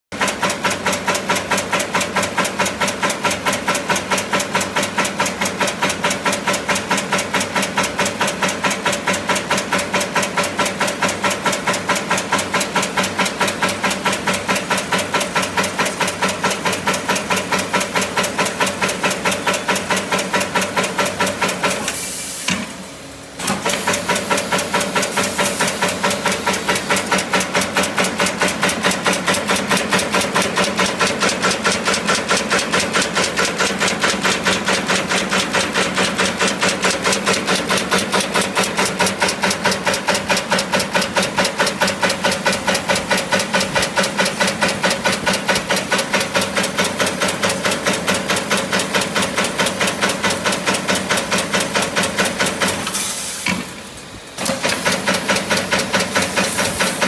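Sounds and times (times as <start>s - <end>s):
spot welding machine running: 0.2s - 57.0s.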